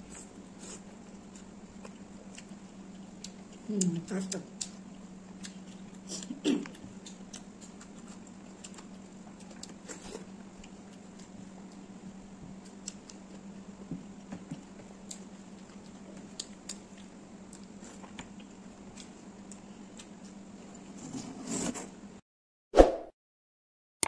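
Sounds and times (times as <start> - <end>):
soft chewing: 0.0 - 20.9
steady low hum: 0.0 - 22.2.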